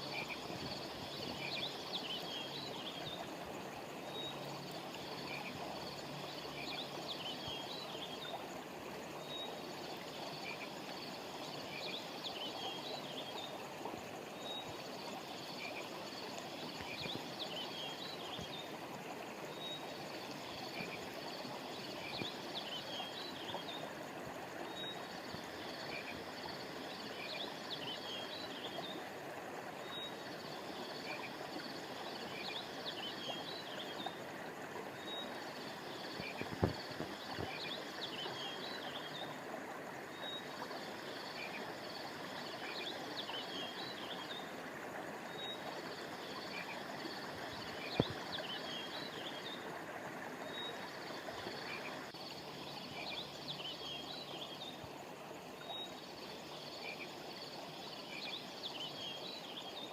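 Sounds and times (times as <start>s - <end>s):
stream rushing: 0.0s - 57.8s.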